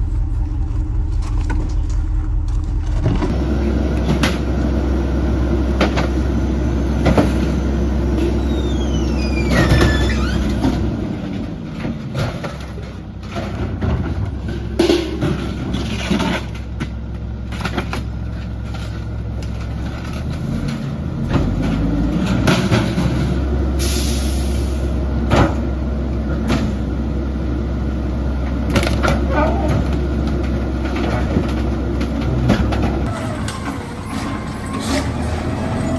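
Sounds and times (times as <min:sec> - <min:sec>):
garbage truck engine rumbling: 0:00.0 - 0:35.9.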